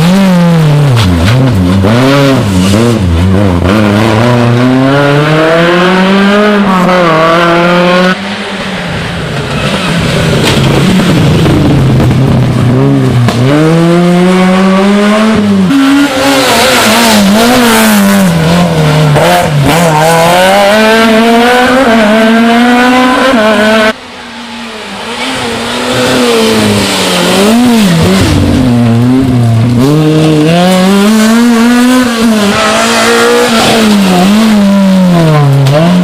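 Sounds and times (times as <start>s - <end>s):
rally car engines revving: 0.0s - 36.0s.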